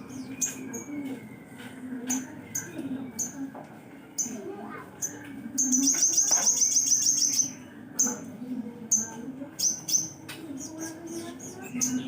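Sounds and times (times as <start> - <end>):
songbird trilling and chirping: 0.0 - 12.0.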